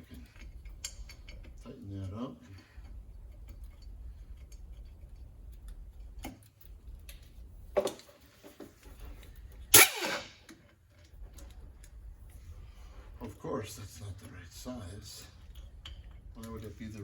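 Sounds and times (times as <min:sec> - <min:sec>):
steady low hum: 0:00.0 - 0:07.8, 0:08.8 - 0:17.0.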